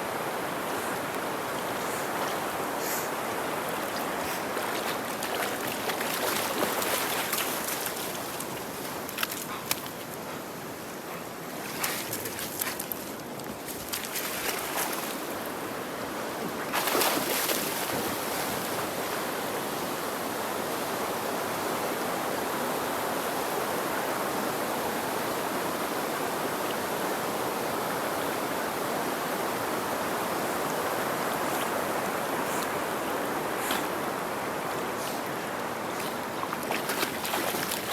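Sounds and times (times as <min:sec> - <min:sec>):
river water rushing: 0:00.0 - 0:09.7, 0:13.7 - 0:37.9.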